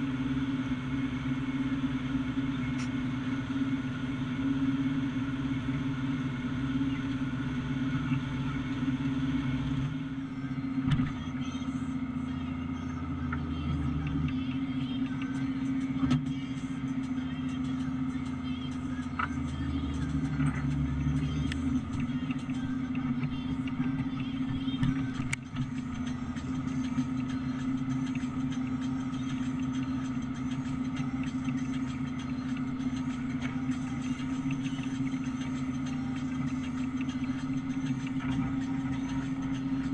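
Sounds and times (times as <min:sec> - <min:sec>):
chopper machinery running: 0:00.0 - 0:39.9
tractor engine drone under load: 0:00.0 - 0:39.9.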